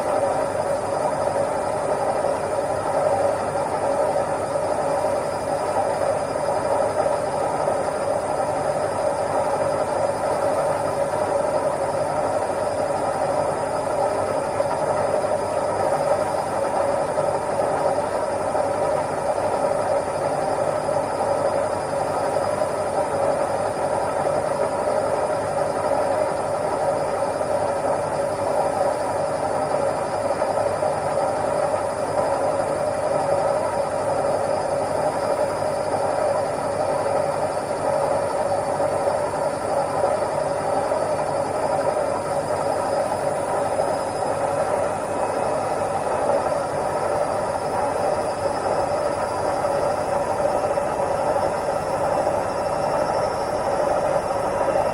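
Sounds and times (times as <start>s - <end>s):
washing machine running: 0.0s - 54.9s.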